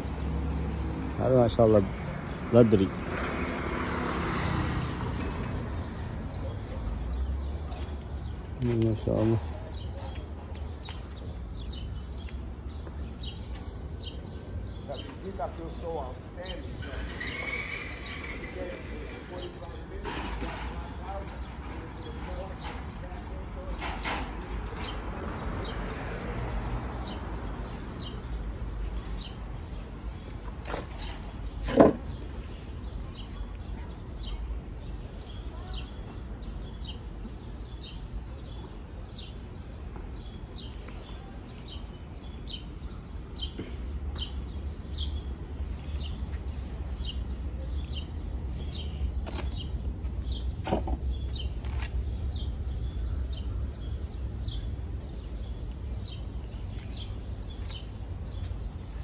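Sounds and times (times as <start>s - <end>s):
small birds chirping: 5.8s - 25.9s, 27.0s - 59.0s.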